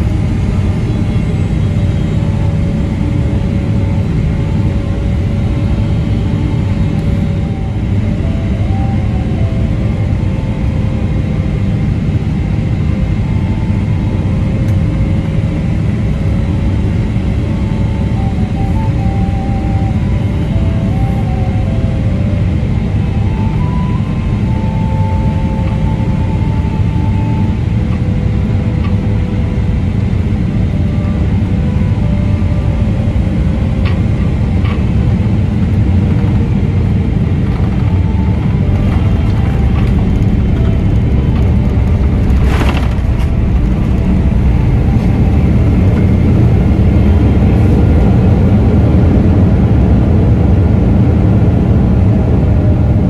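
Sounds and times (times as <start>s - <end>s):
airplane cabin low rumble: 0.0s - 53.0s.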